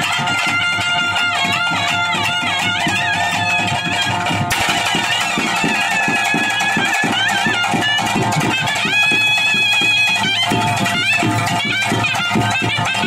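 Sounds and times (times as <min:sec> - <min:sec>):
fast steady drumming: 0:00.0 - 0:13.0
ornamented melody instrument: 0:00.0 - 0:13.0.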